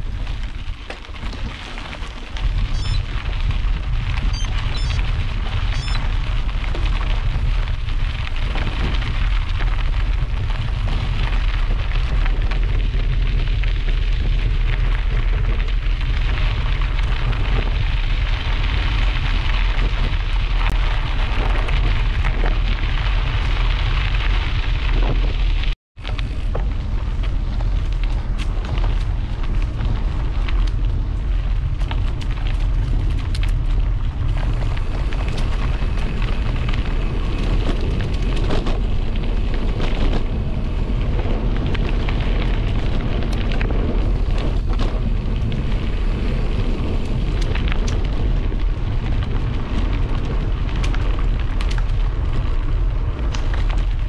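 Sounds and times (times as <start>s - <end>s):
low rumble: 0.0s - 54.0s
wind buffeting microphone: 0.0s - 54.0s.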